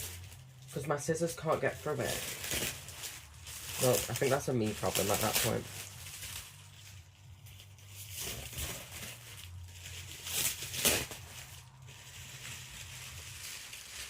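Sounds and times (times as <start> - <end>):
packing material rustling and tearing: 0.0 - 14.0.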